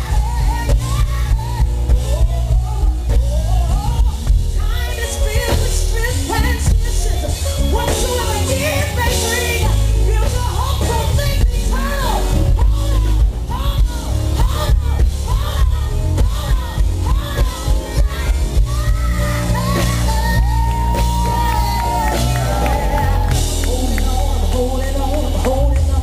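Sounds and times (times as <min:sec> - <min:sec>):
band with heavy bass: 0:00.0 - 0:26.0
woman singing vocal runs: 0:00.0 - 0:26.0.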